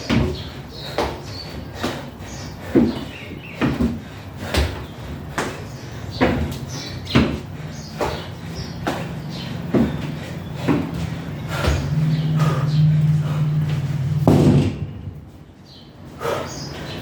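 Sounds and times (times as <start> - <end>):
feet thudding on a box: 0.0 - 15.4.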